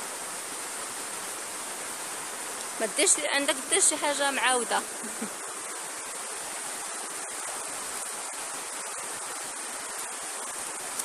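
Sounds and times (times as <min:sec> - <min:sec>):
river water rushing over stones: 0:00.0 - 0:11.0.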